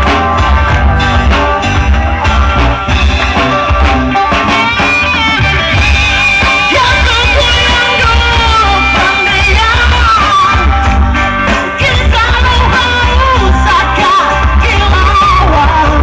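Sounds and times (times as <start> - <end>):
lead guitar bending notes: 0.0 - 16.0
rock band playing: 0.0 - 16.0.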